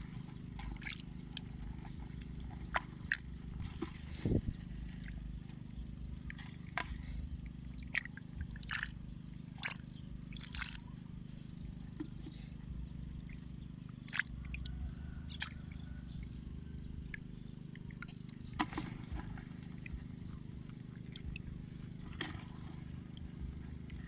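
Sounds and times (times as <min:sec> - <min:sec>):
high short insect or frog call: 0:00.0 - 0:24.0
steady low hum: 0:00.0 - 0:24.0.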